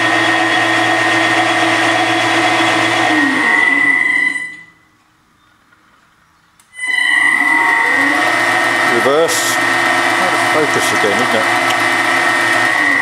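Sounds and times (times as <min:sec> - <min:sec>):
lathe motor whining: 0:00.0 - 0:04.8, 0:06.8 - 0:13.0.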